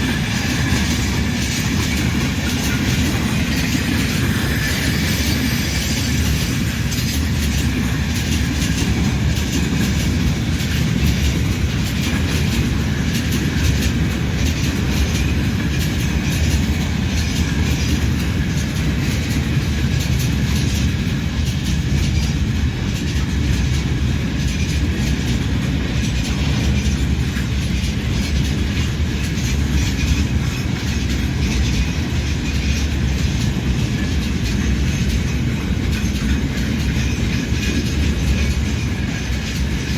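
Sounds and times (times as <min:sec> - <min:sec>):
freight train rolling past: 0:00.0 - 0:39.9
wagon wheels clattering on rails: 0:00.0 - 0:39.9.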